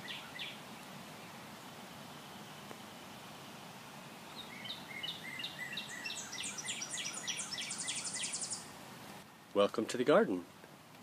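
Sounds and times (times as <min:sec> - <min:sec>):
songbird singing: 0:00.0 - 0:08.8
steady background hiss: 0:00.0 - 0:11.0.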